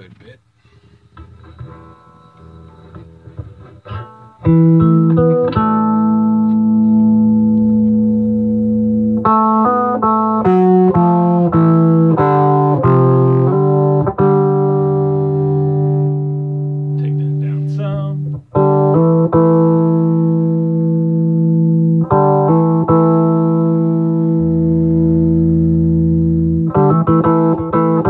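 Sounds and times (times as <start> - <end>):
electric guitar chords: 1.2 - 28.0.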